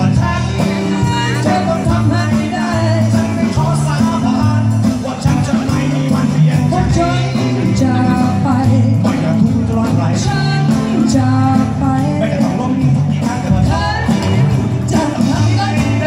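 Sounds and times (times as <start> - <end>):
bass line: 0.0 - 16.0
drums: 0.0 - 16.0
live band playing instrumental: 0.0 - 16.0.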